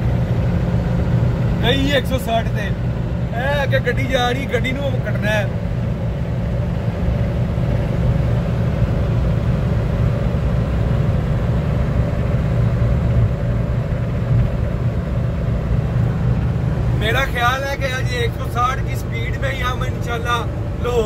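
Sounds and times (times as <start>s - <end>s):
car cabin drone: 0.0s - 21.0s.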